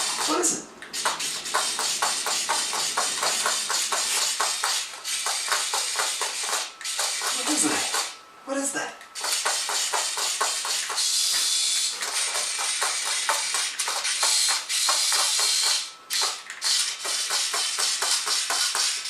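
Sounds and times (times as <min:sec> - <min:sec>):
toy mechanism clicking rapidly: 0:00.0 - 0:08.2, 0:09.2 - 0:19.0.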